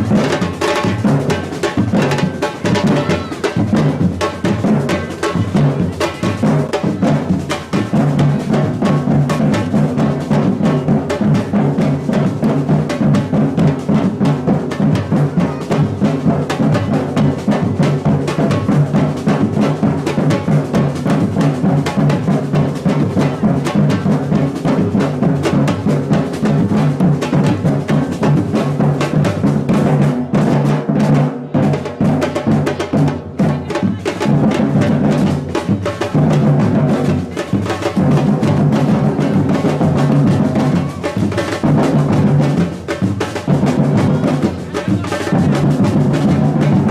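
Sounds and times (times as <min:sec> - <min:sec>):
samba drum ensemble: 0:00.0 - 0:46.9.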